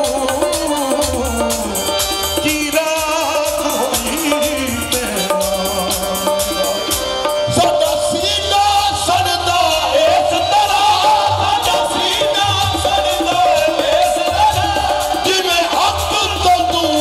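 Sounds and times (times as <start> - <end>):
harmonium chords: 0.0 - 17.0
men singing: 0.0 - 17.0
percussion beating rhythm: 0.0 - 17.0.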